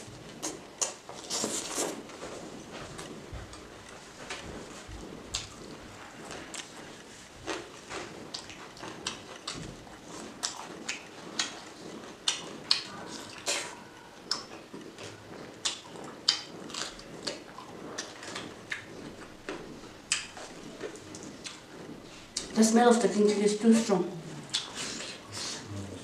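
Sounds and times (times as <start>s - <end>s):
chewing and mouth smacking: 0.0s - 3.7s, 4.3s - 22.6s, 24.3s - 25.6s.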